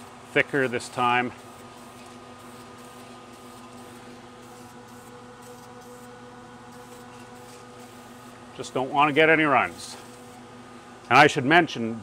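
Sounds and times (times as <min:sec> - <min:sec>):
extraction fan hum: 0:00.0 - 0:12.0.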